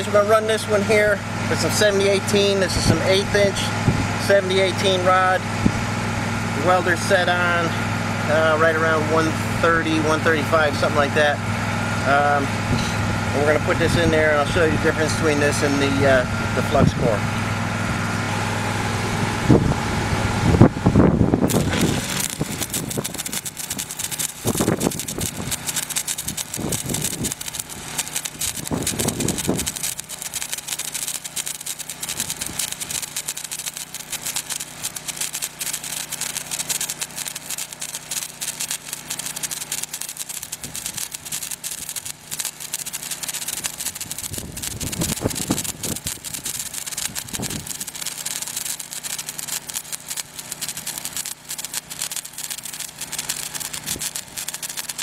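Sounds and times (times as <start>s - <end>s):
engine hum: 0.0s - 55.0s
welding arc crackle: 0.0s - 55.0s.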